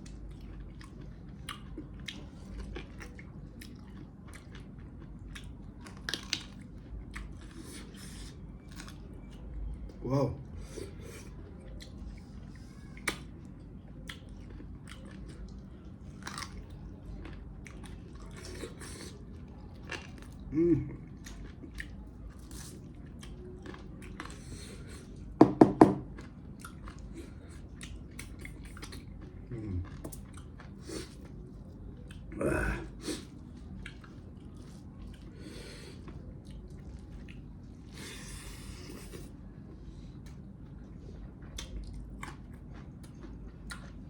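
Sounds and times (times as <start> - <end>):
person chewing meat: 0.0 - 44.0.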